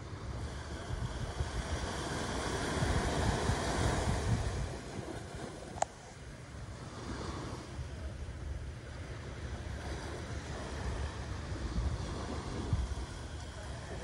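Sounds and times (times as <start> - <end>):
small waves breaking on beach: 0.0 - 14.0
wind rumbling on microphone: 0.0 - 14.0.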